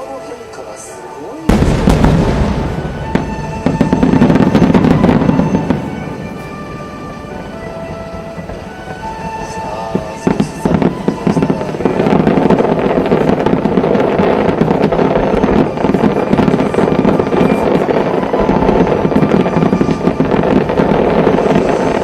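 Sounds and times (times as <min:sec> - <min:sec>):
music: 0:00.0 - 0:22.0
fireworks crackling barrage: 0:00.1 - 0:22.0
fireworks bangs: 0:01.5 - 0:22.0.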